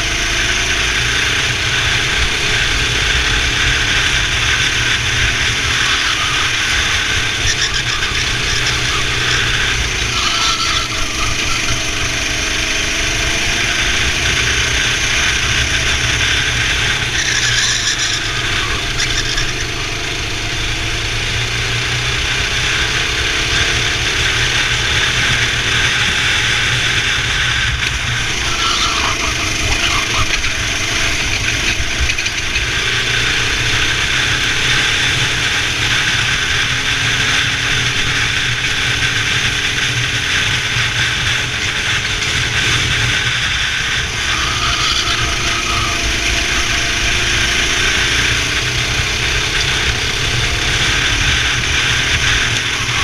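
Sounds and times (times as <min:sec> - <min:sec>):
kart engine revving: 0:00.0 - 0:53.0
tire squeals: 0:00.0 - 0:53.0.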